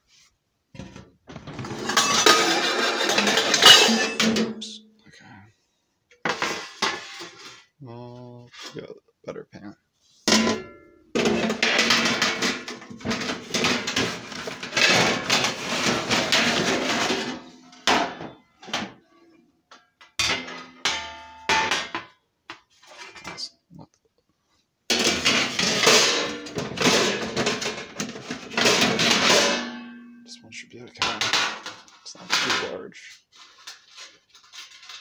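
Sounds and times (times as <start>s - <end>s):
metal pans clattering: 0.8s - 4.7s, 6.1s - 7.6s, 10.3s - 23.5s, 24.9s - 32.8s, 33.4s - 35.0s.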